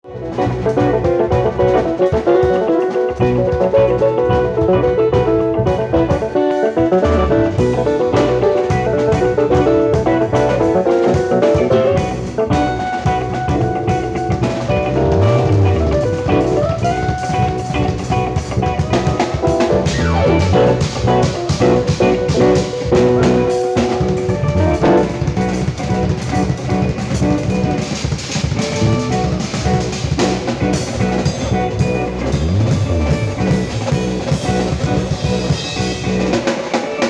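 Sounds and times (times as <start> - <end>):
band instruments and bass: 0.0 - 37.0
drum kit with cymbal hits: 0.0 - 37.0.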